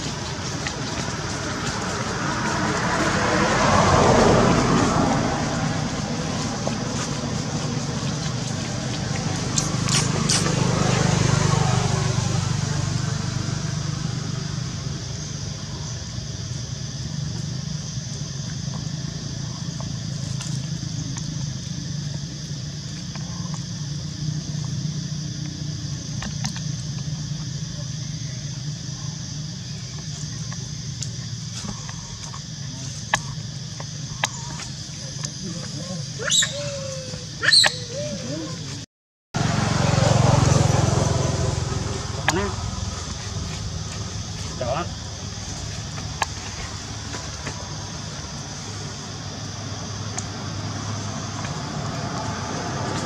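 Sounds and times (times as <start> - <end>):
vehicle engine hum: 0.0 - 53.0.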